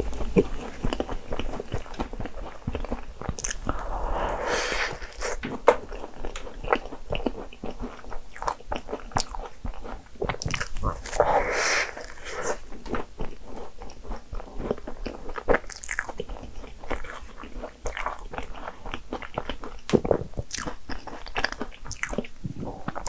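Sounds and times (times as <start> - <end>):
crunching biscuit: 0.0 - 23.0.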